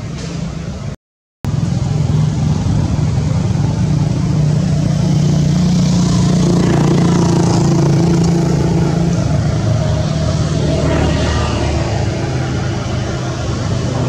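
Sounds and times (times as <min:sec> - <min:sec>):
motor engine humming: 0:01.5 - 0:14.0.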